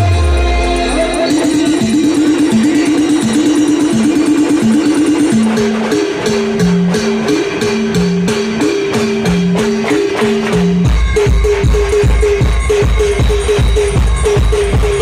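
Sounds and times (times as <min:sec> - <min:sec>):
band melody: 0:00.0 - 0:15.0
percussion beat: 0:00.0 - 0:15.0.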